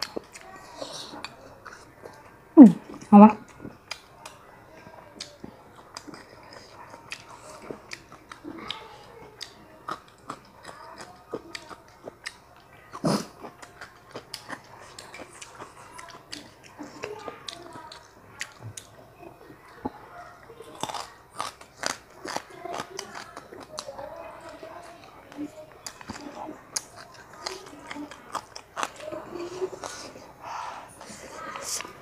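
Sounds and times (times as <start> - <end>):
chewing and biting food: 0.0 - 30.4.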